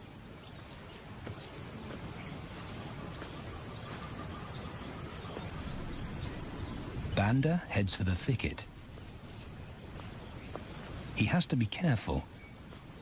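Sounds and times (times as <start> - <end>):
low rustling rumble: 0.0 - 11.3.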